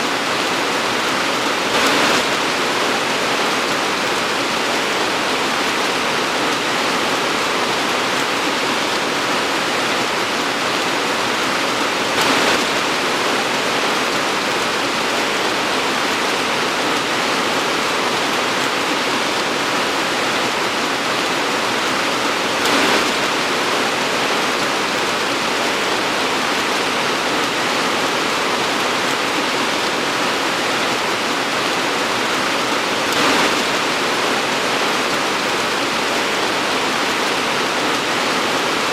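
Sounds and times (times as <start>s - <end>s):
torrential rain pouring: 0.0s - 38.9s.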